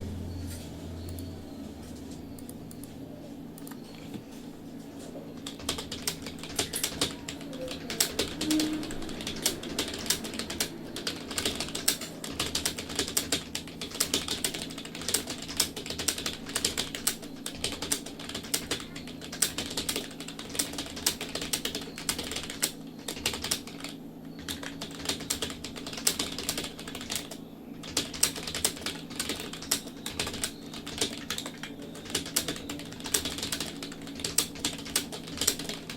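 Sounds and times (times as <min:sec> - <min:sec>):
typing on computer keyboard: 0:05.4 - 0:35.9.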